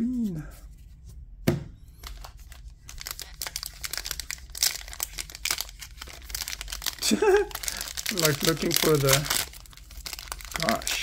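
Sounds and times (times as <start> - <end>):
wrapper crinkling: 2.0 - 11.0.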